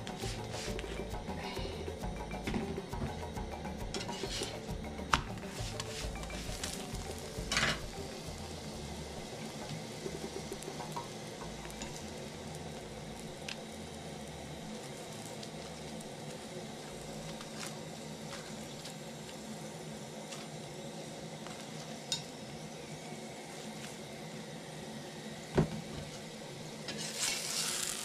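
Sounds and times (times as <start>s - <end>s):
flatbread sizzling on griddle: 0.0s - 1.8s, 3.0s - 28.0s.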